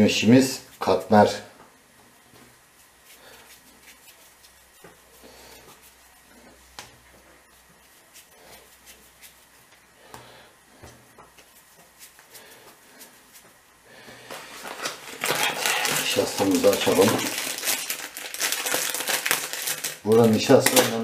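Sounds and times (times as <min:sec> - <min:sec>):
dough rubbing between palms: 0:00.0 - 0:19.0.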